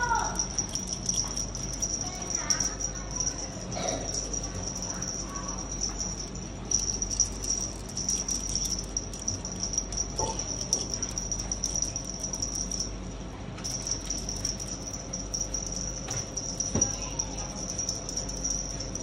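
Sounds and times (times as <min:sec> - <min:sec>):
high-pitched insect trill: 0:00.0 - 0:12.9, 0:13.7 - 0:19.0.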